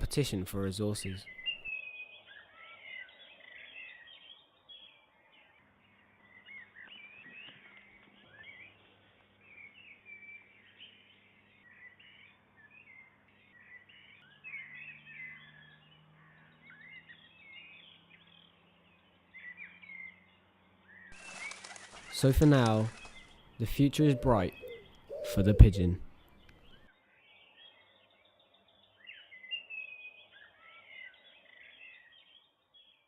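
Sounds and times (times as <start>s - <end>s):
small birds chirping and singing: 0.0s - 33.0s.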